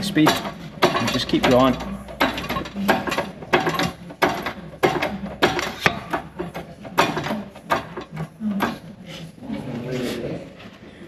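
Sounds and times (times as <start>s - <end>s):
press tool clicking and knocking: 0.0s - 8.9s.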